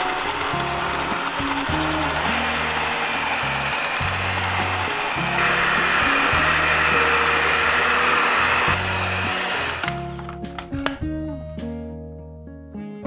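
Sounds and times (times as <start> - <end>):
electric hand mixer running: 0.0 - 11.0
background music: 0.0 - 13.0.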